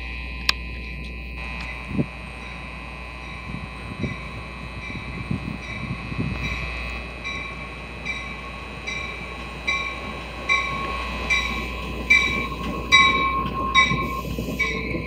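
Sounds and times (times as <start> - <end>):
rumble of train cars: 0.0 - 15.0
train bell ringing: 0.0 - 15.0
thin steady squeal: 0.7 - 15.0.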